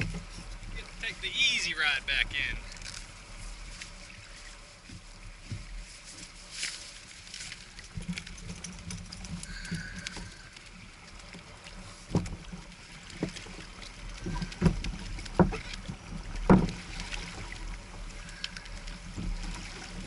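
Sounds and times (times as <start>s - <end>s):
water lapping against hull: 0.0s - 20.0s.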